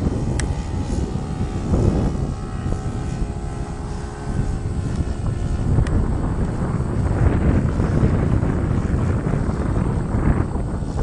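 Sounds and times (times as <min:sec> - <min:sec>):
model airplane engine running: 0:00.0 - 0:11.0
wind rumble on microphone: 0:00.0 - 0:11.0.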